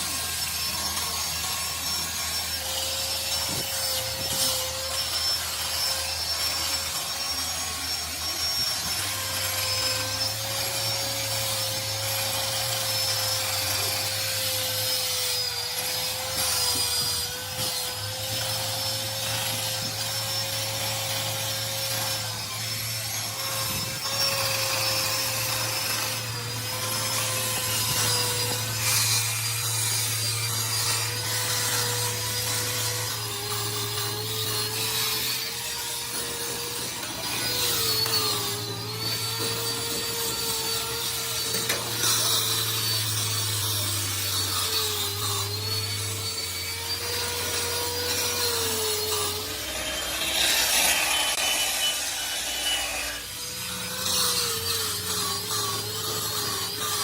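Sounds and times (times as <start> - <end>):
power tool motor whine: 0.0 - 57.0.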